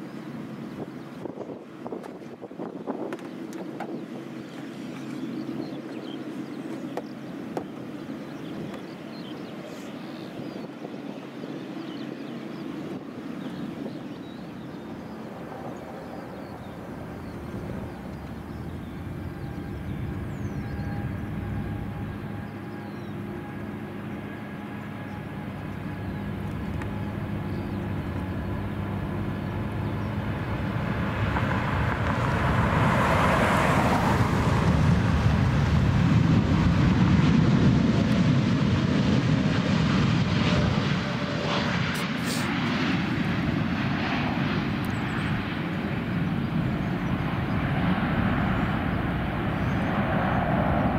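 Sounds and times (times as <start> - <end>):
jet airliner engines rumbling: 0.0 - 50.9.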